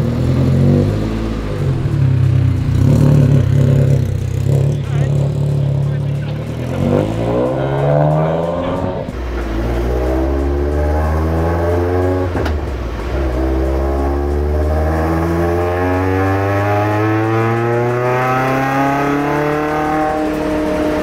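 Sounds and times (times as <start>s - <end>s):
car engine pulling hard: 0.0s - 21.0s.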